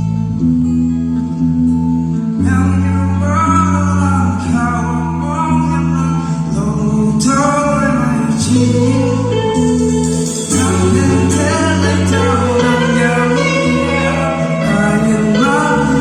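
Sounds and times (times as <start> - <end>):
sustained instrumental chords: 0.0 - 16.0
gospel song with voices singing: 2.4 - 16.0.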